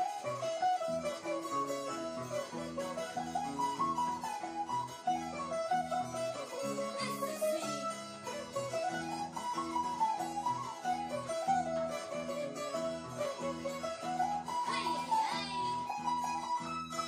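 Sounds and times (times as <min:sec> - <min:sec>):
plucked guitar bass notes: 0:00.0 - 0:17.0
plucked harp melody: 0:00.0 - 0:17.0.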